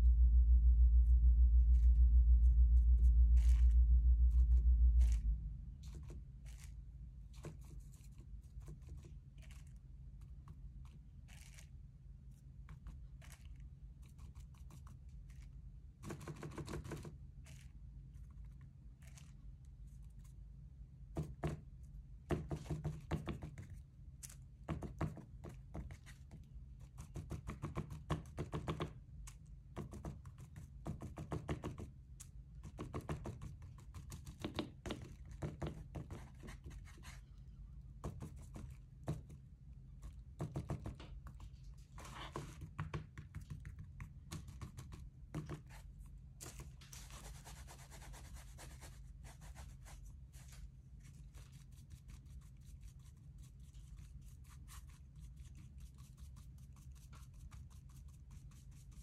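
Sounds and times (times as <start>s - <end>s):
low room hum: 0.0s - 59.0s.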